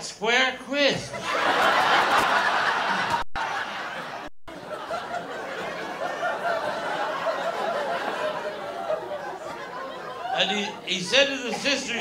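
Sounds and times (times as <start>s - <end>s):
audience laughing: 1.2s - 12.0s.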